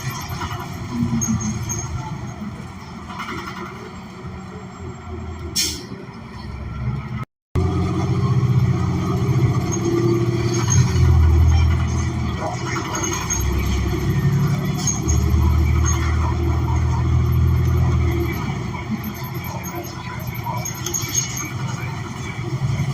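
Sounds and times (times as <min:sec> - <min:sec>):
bus engine drone from inside: 0:00.0 - 0:22.9.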